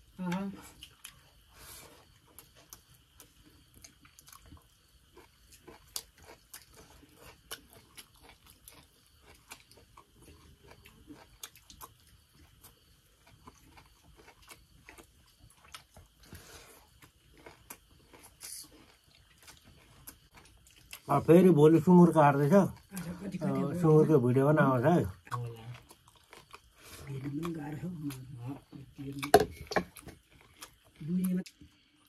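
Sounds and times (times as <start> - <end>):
person chewing food: 0.6 - 21.1, 25.2 - 32.0.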